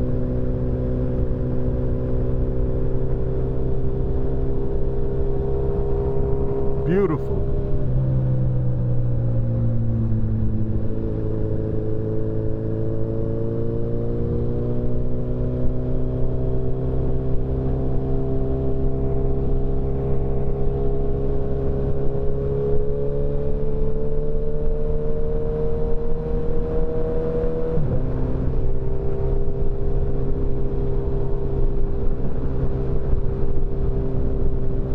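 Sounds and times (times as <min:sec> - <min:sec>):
wind and road rumble: 0:00.0 - 0:34.9.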